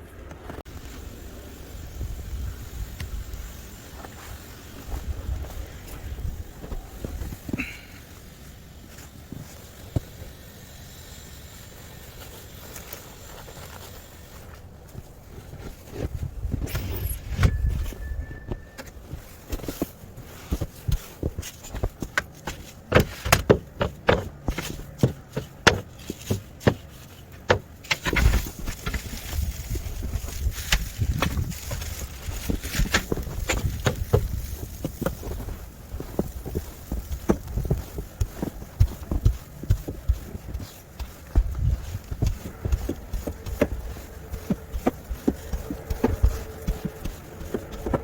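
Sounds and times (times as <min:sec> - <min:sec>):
footsteps crunching through snow: 0:03.7 - 0:10.4, 0:11.6 - 0:48.0.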